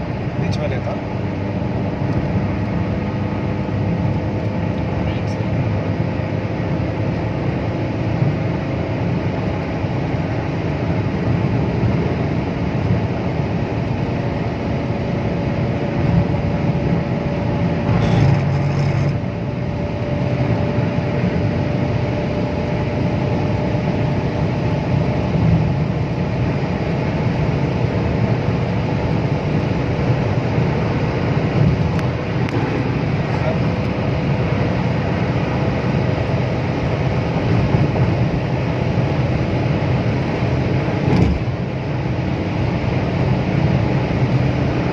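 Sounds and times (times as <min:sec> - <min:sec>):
diesel engine drone: 0:00.0 - 0:44.9
road noise: 0:00.0 - 0:44.9.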